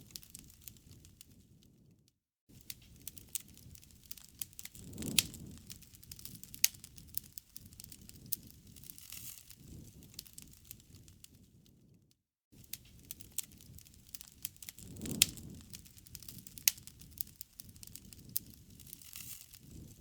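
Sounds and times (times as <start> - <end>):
campfire crackling and popping: 0.0 - 1.7, 2.5 - 11.9, 12.6 - 20.0
low rumble of flames: 0.0 - 12.0, 12.6 - 20.0.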